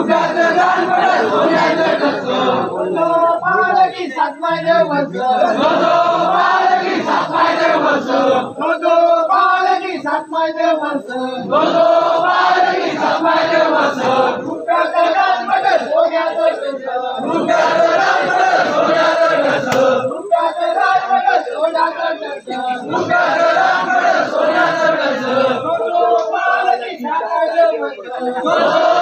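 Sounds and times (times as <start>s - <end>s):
crowd of men chanting: 0.0s - 29.0s.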